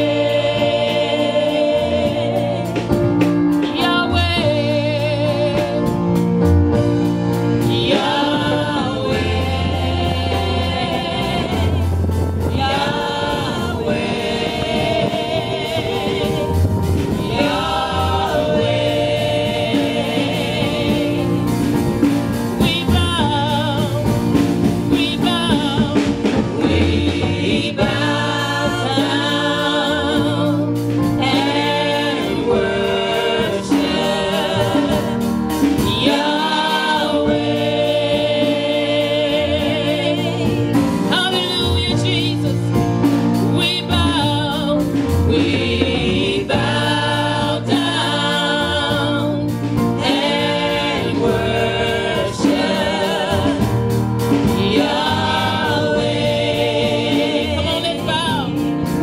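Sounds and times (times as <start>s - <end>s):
gospel singing with vibrato: 0.0s - 59.0s
instrumental accompaniment with bass: 0.0s - 59.0s.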